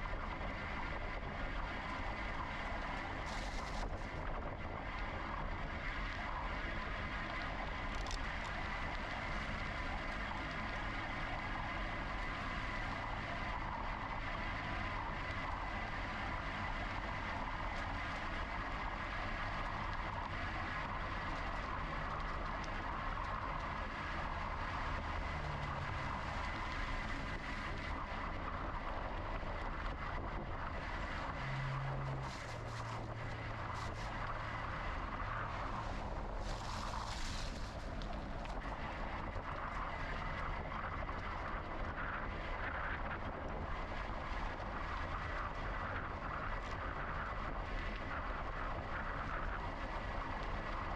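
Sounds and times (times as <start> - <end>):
electric bike rolling noise: 0.0 - 50.9
wind: 0.0 - 50.9.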